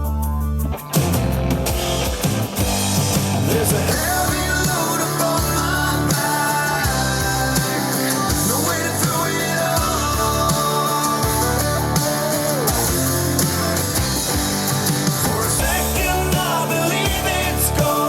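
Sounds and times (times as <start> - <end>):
rock song with singing: 1.6 - 18.0.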